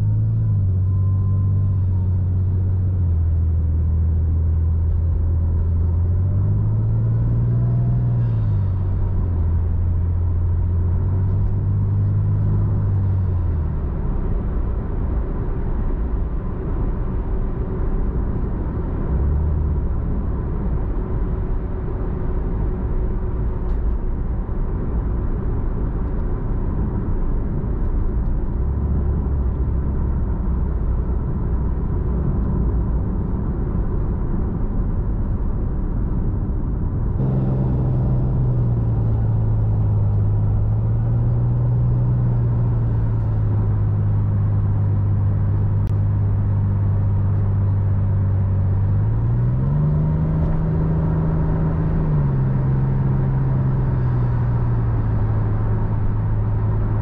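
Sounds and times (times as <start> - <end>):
car engine drone from cabin: 0.0 - 57.0
road noise: 0.0 - 57.0.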